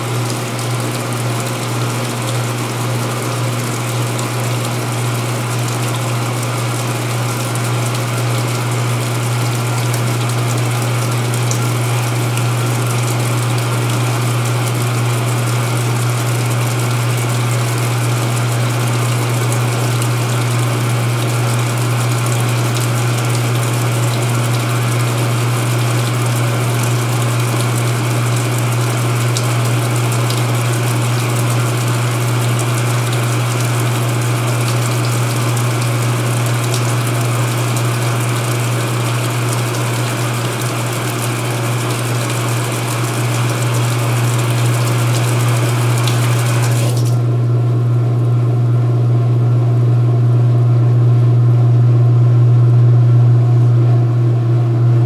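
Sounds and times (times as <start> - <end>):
drain pump humming: 0.0 - 55.0
washer tub spinning whir: 0.0 - 55.0.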